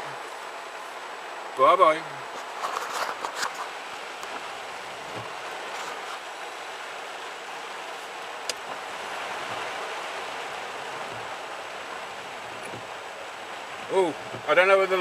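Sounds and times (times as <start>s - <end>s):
heavy rain on a car roof: 0.0s - 15.0s.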